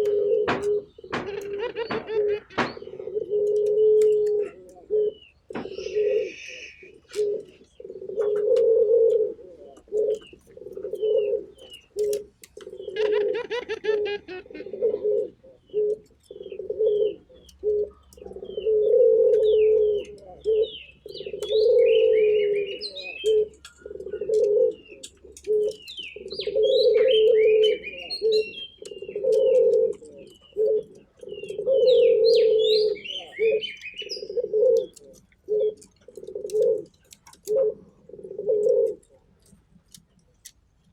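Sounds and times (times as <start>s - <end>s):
dove cooing: 0.0s - 39.7s
small birds chirping: 0.0s - 40.9s.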